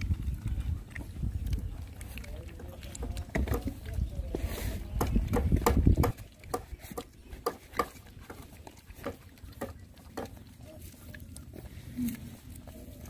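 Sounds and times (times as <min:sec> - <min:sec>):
puppies lapping milk: 0:00.0 - 0:13.0.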